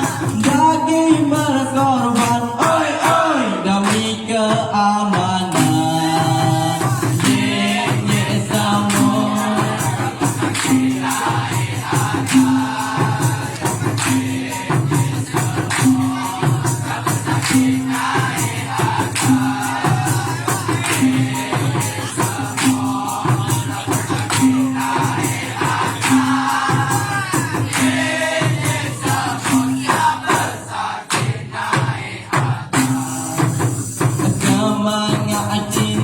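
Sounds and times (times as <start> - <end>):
chorus of voices singing: 0.0 - 36.0
hand percussion and shakers: 0.0 - 36.0.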